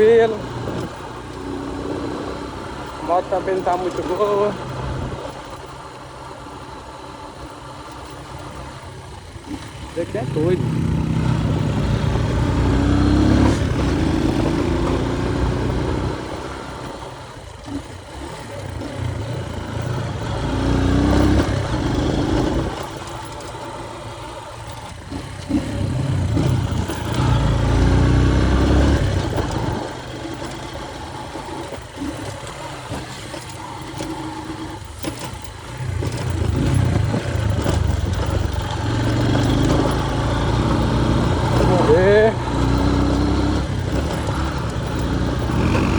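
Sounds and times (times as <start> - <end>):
small motorcycle engine accelerating: 0.0 - 45.9.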